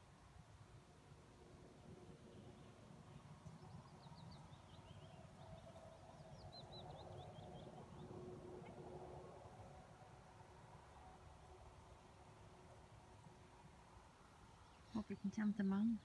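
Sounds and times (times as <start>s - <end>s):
songbird chirping: 2.2s - 16.0s.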